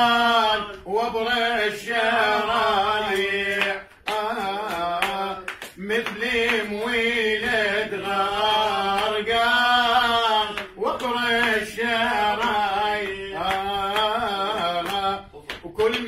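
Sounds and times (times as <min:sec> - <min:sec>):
man singing ornamented vocal: 0:00.0 - 0:16.0.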